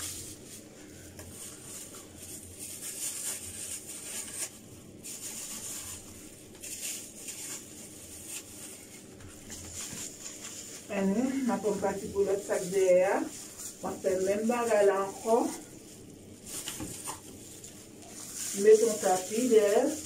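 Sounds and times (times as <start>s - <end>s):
hands rustling through hair: 0.0s - 20.0s.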